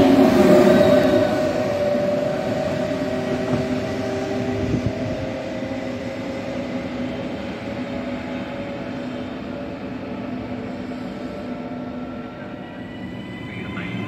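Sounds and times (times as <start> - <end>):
train rolling noise: 0.0 - 14.0.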